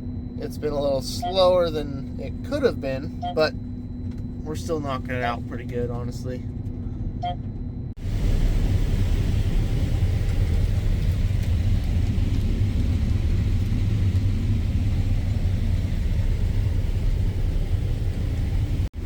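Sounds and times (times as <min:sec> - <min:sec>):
combine harvester rumble: 0:00.0 - 0:19.0.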